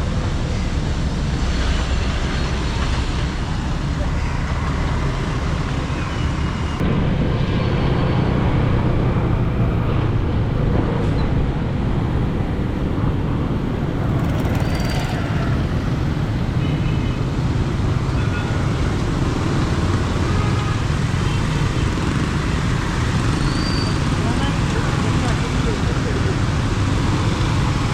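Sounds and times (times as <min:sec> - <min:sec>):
road traffic: 0:00.0 - 0:27.9.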